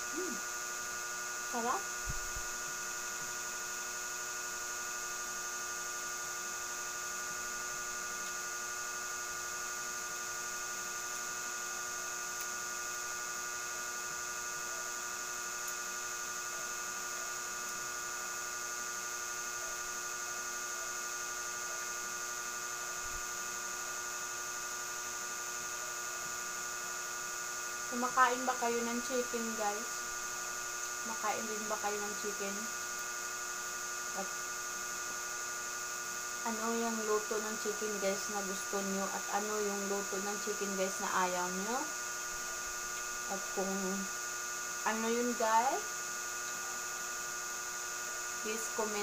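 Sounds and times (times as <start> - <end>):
electric fan humming: 0.0 - 49.0.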